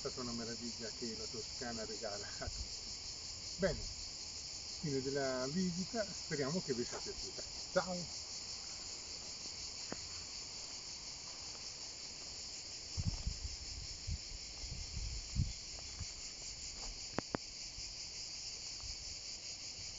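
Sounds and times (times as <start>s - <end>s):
insects chirring: 0.0s - 19.9s.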